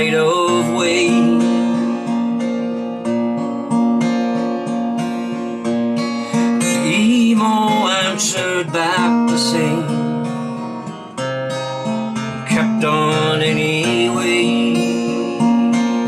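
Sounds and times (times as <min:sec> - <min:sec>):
acoustic guitar strumming with reverb: 0:00.0 - 0:16.0.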